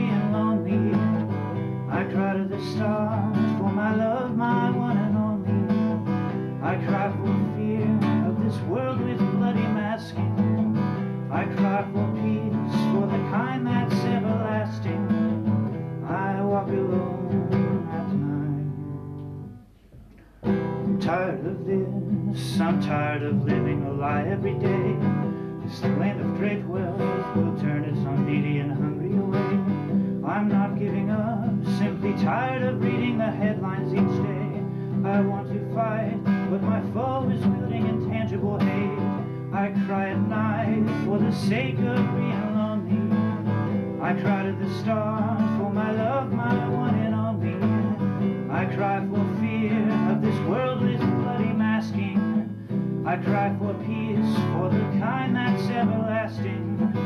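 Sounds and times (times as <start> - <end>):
acoustic guitar playing chords: 0.0 - 57.0.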